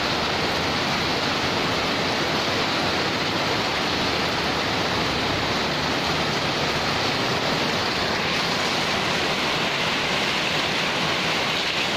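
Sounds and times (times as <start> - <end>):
heavy rain on concrete: 0.0 - 11.9.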